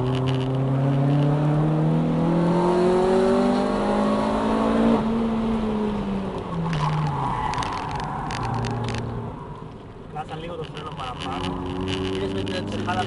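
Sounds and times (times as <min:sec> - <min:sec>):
car engine accelerating and slowing: 0:00.0 - 0:13.0.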